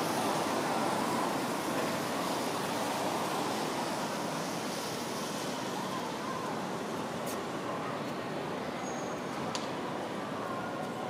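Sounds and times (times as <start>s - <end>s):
road traffic hum: 0.0s - 11.0s
streetcar moving along track: 0.0s - 11.0s.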